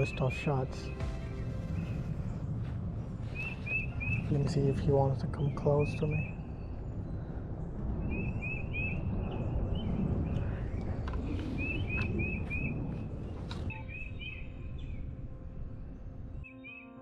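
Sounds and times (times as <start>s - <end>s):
low rumble: 0.0s - 16.5s.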